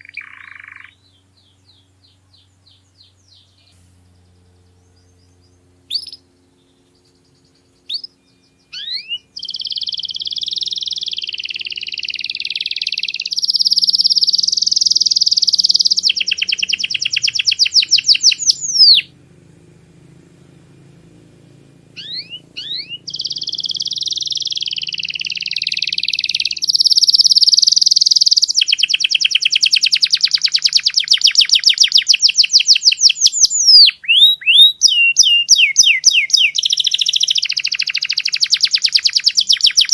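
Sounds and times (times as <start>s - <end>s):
canary singing trills: 0.0s - 19.2s, 20.8s - 39.9s.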